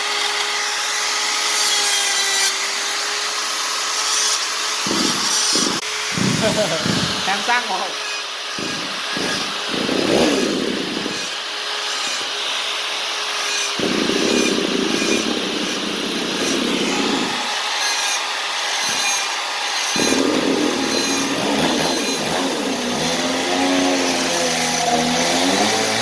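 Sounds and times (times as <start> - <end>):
rotary tool grinding wood: 0.0 - 26.0.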